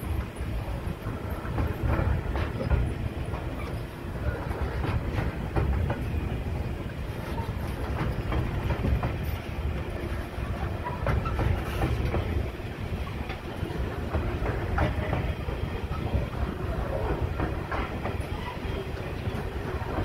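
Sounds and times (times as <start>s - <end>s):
freight train wheels rumbling: 0.0s - 20.0s
wheels clacking over rail joints: 0.0s - 20.0s.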